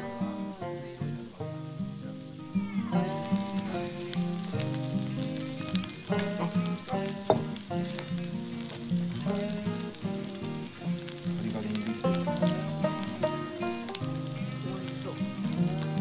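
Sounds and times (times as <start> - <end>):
background music: 0.0 - 16.0
food sizzling on a griddle: 0.0 - 16.0.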